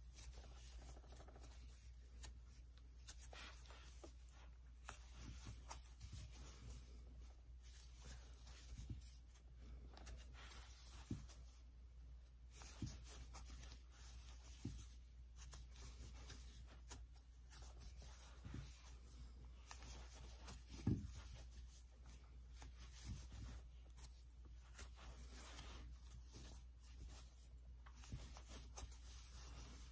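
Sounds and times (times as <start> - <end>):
crochet hook rustling yarn: 0.0 - 29.9.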